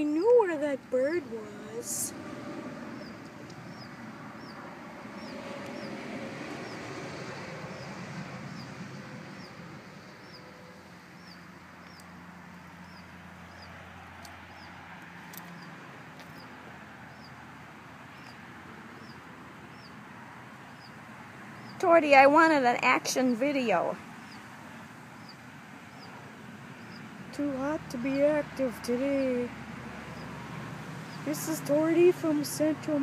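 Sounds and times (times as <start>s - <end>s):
bird chirping: 2.9s - 6.9s, 7.7s - 14.8s, 15.4s - 29.5s, 30.1s - 30.4s, 31.0s - 33.0s.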